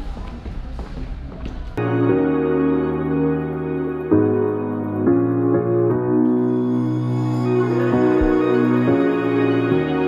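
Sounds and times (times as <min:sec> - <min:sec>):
slow sustained chord music: 0:01.8 - 0:10.0.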